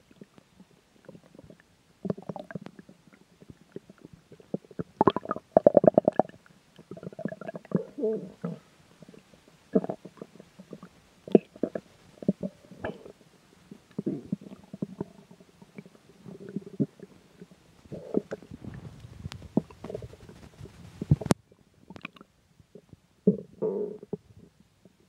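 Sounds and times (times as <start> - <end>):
stomach growling: 0.0 - 25.0.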